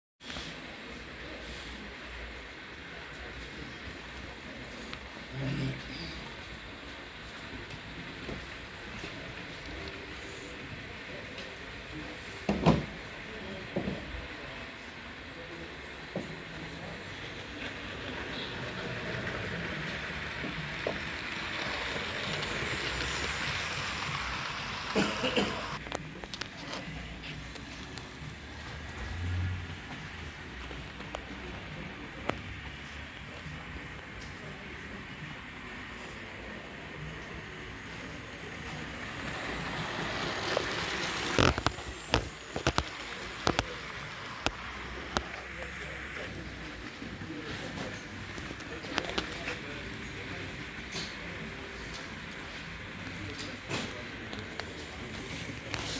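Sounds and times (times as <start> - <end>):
model train running on track: 0.6 - 27.0, 27.9 - 55.9.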